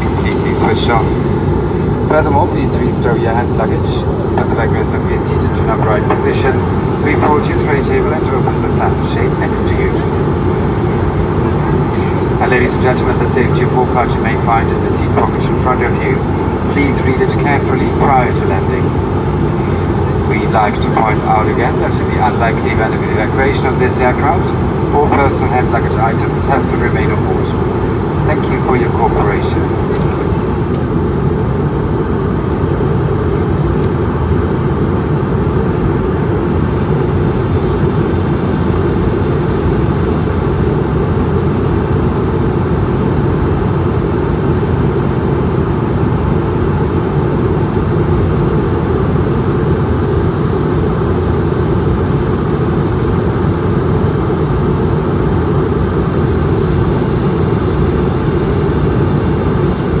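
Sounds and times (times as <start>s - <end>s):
airplane cabin drone: 0.0s - 60.0s.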